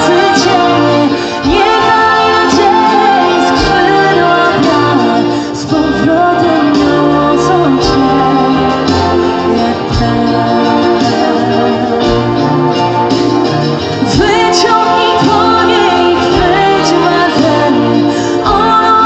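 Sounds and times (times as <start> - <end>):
woman singing: 0.0 - 13.2, 14.0 - 19.0
bass: 0.0 - 19.0.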